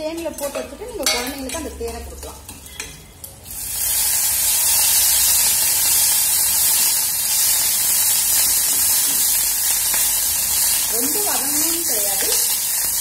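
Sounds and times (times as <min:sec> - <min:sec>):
leaves sizzling in hot oil: 0:00.2 - 0:13.0.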